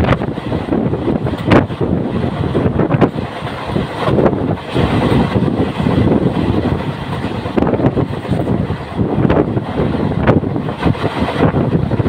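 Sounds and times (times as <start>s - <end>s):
train wheels rumbling and rattling: 0.0s - 12.0s
wind on microphone: 0.0s - 12.0s.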